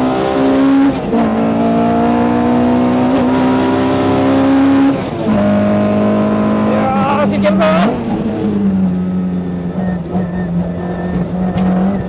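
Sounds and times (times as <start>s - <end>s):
car engine at racing revs: 0.0s - 12.0s.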